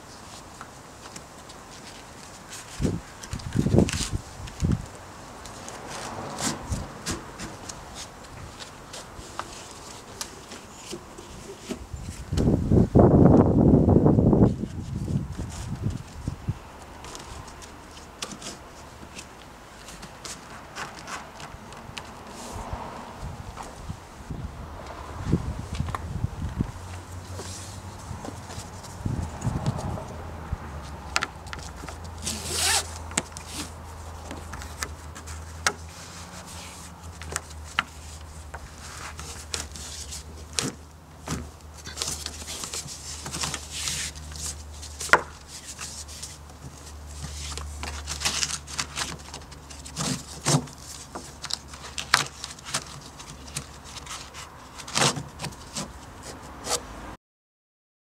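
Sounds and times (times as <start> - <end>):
strap swishing and rubbing: 1.4 - 12.6, 14.3 - 57.2.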